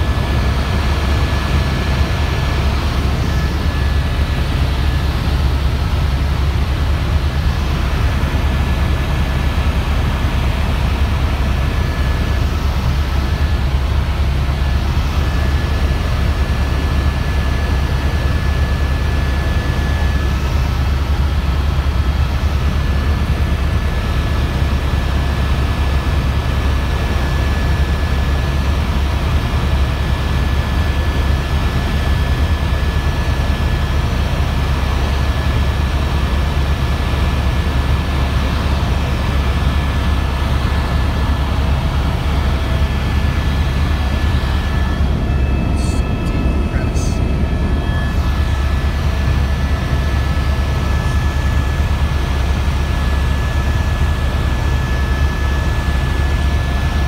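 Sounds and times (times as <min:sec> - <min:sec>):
helicopter rotor and engine drone: 0:00.0 - 0:57.0
thin steady whine: 0:00.0 - 0:57.0.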